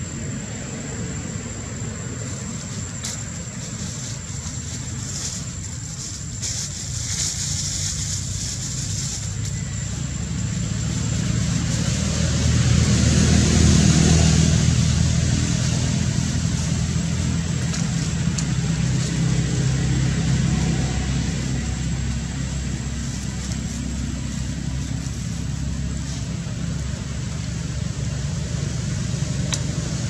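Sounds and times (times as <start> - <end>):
low engine hum: 0.0 - 30.0.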